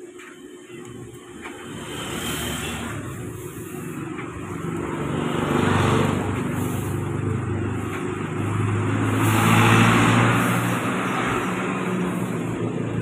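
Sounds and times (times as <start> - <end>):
garment steamer humming: 0.0 - 13.0
steam hissing: 1.4 - 13.0.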